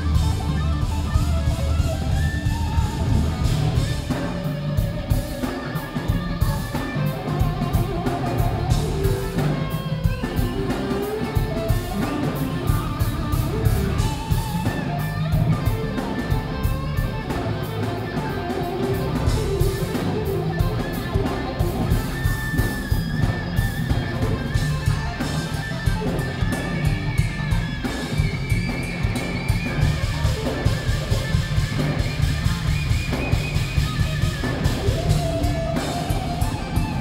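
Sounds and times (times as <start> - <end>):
electric guitar lead: 0.0 - 37.0
muffled live rock band: 0.0 - 37.0.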